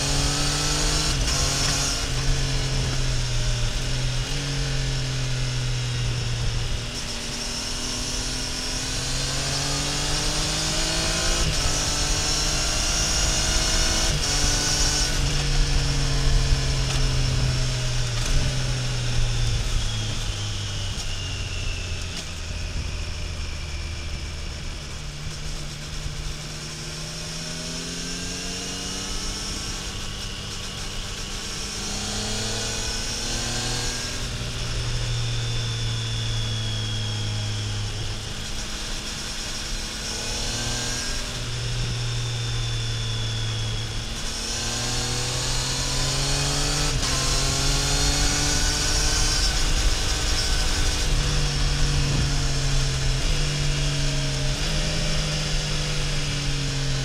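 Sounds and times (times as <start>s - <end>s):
motorcycle engine and exhaust: 0.0s - 57.0s
wind and road noise: 0.0s - 57.0s.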